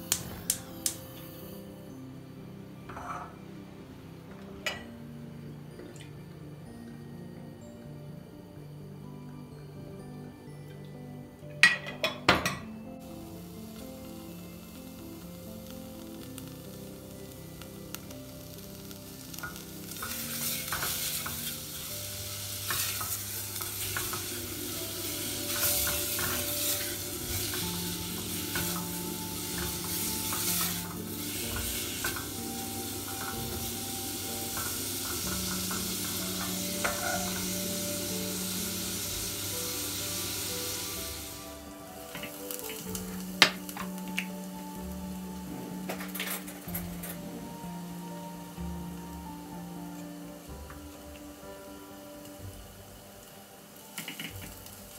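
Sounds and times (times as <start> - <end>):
food sizzling in a pan: 0.0 - 2.1, 12.1 - 54.9.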